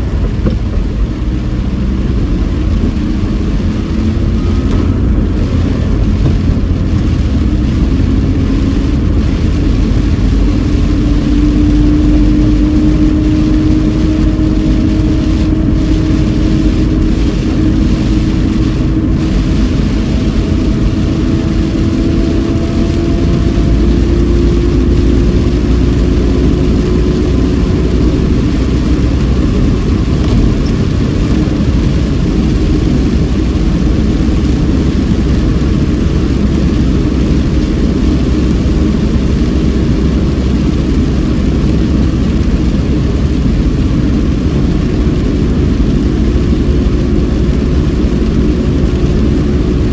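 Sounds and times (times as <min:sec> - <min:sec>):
car engine rising in pitch: 0:00.0 - 0:49.9
tyre road rumble: 0:00.0 - 0:49.9.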